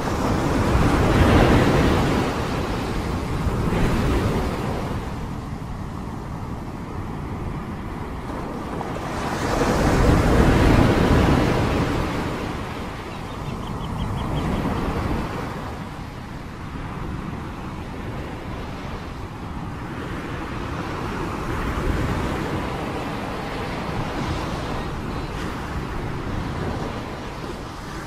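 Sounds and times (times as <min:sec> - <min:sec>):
gusting wind: 0:00.0 - 0:28.0
wind buffeting microphone: 0:00.0 - 0:28.0.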